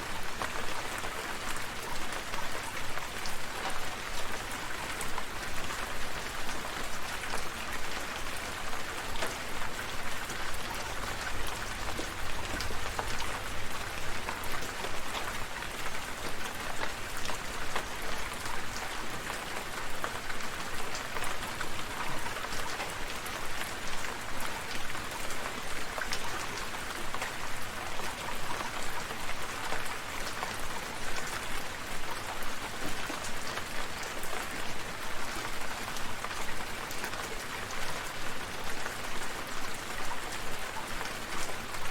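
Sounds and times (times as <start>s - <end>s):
rain drops pattering: 0.0s - 41.9s.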